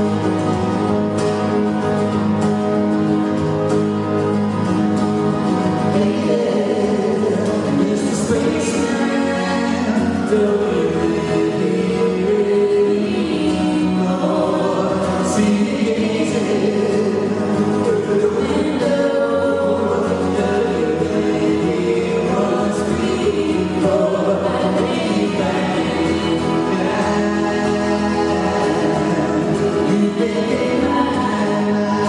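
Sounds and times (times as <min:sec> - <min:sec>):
live band music: 0:00.0 - 0:32.0
voices singing in harmony: 0:05.6 - 0:32.0.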